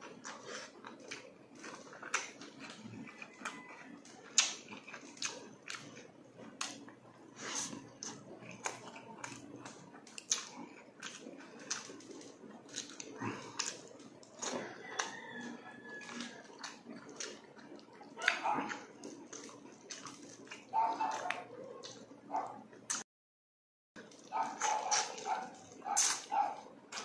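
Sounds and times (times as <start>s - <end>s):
wet chewing and lip smacking: 0.0s - 23.0s, 24.0s - 27.0s.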